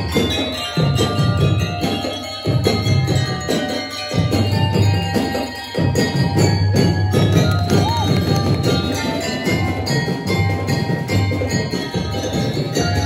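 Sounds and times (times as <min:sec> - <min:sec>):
bell lyres ringing a melody: 0:00.0 - 0:13.0
rhythmic drumming: 0:00.0 - 0:13.0.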